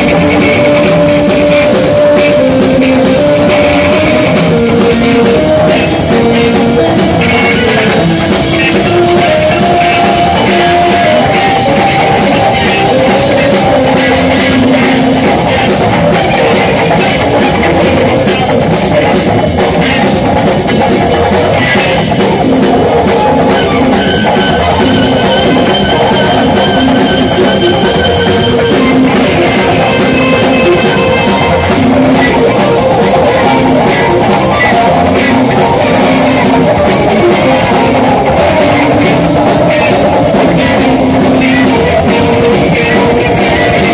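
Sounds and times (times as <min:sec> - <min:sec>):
drum kit with cymbals: 0:00.0 - 0:43.9
electric guitar: 0:00.0 - 0:43.9
jazz-rock band playing: 0:00.0 - 0:43.9.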